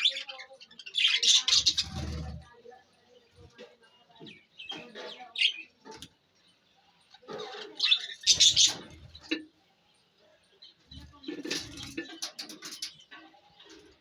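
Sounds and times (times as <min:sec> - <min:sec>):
budgies chirping: 0:00.0 - 0:14.0.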